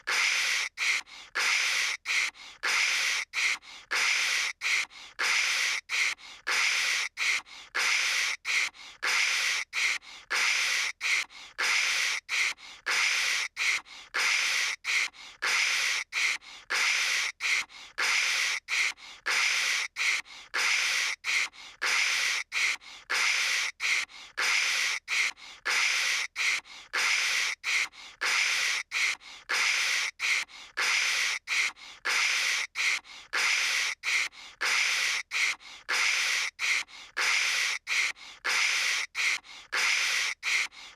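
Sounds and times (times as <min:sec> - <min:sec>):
girl making hissing static noise: 0:00.0 - 0:40.9.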